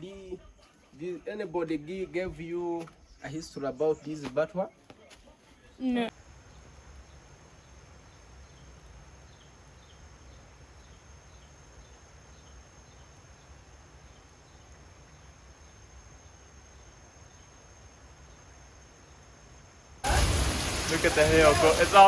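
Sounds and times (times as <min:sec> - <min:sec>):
insect chorus buzzing and chirping: 0:00.0 - 0:04.7, 0:05.8 - 0:22.0.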